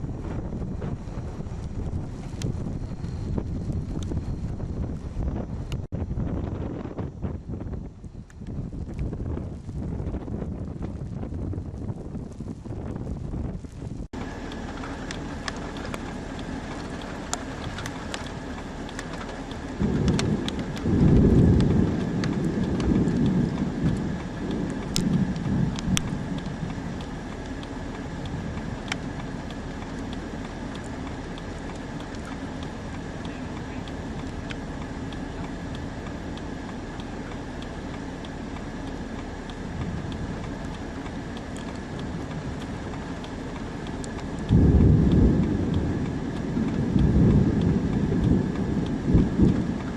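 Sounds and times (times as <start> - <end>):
raindrop ticks: 0.0 - 5.9, 7.7 - 49.9
rain hissing: 0.0 - 49.9
thunder rumbling: 0.0 - 49.9.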